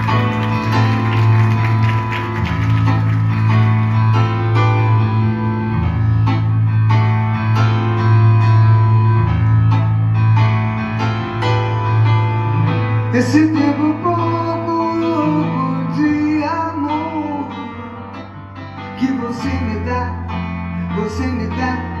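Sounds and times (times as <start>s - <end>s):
keyboard playing: 0.0s - 22.0s.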